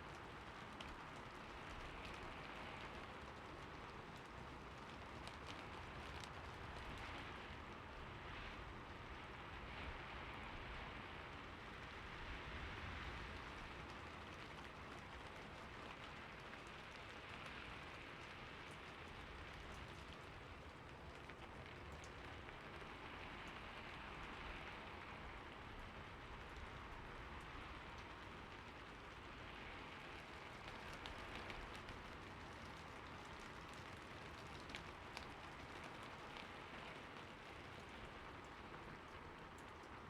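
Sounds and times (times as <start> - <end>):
rain falling on a roof: 0.0 - 40.0.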